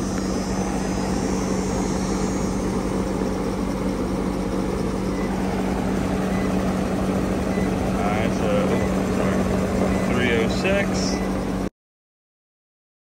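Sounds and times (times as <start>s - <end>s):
compressor low hum: 0.0s - 11.7s
fan air rushing: 0.0s - 11.7s.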